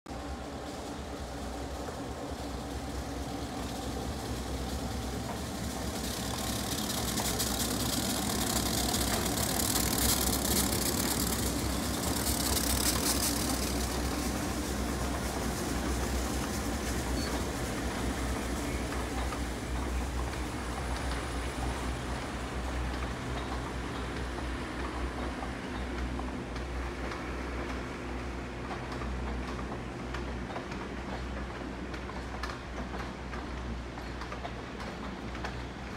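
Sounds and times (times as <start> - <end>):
diesel locomotive engine running: 0.1 - 35.9
train rumbling on track: 0.1 - 35.9.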